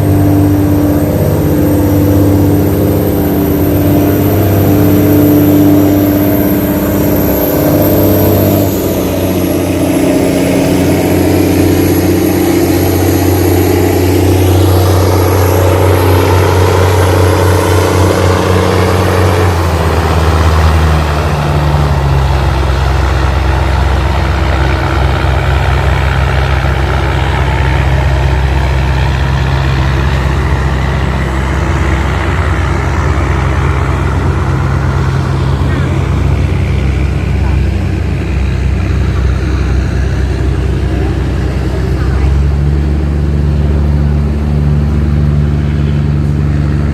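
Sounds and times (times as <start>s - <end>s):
boat diesel engine running: 0.0s - 46.9s.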